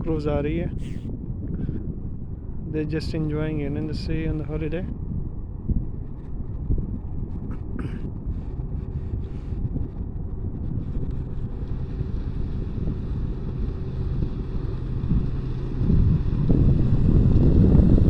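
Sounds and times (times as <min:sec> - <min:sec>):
faint low hum: 0:00.0 - 0:18.0
wind buffeting microphone: 0:00.0 - 0:18.0.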